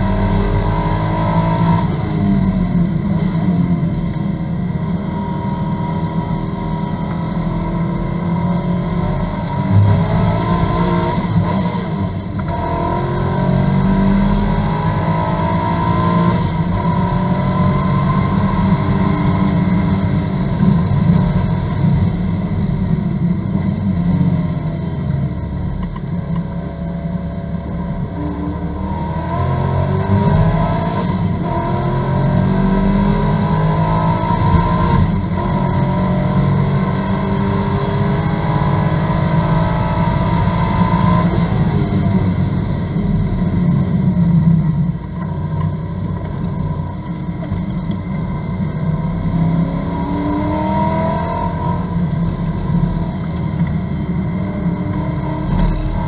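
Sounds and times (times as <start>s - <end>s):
race car engine accelerating: 0.0s - 24.4s, 27.6s - 56.0s.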